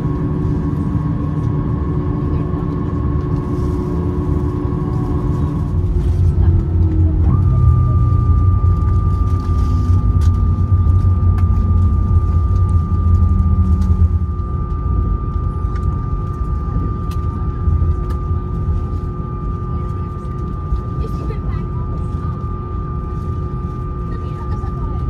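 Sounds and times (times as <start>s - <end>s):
aircraft cabin engine rumble: 0.0s - 25.0s
high-pitched whine: 0.0s - 25.0s.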